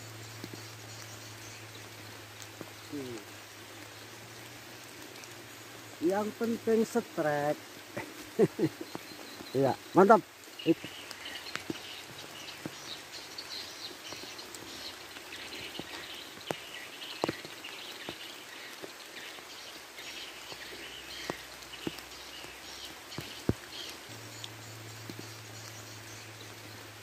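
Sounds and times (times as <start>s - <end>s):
birds chirping: 0.0s - 27.0s
light rain on water: 0.0s - 27.0s.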